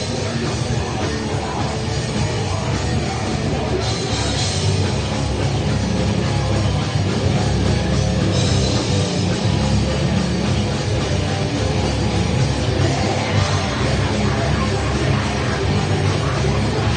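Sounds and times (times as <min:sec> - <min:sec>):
live grindcore band playing: 0:00.0 - 0:16.9.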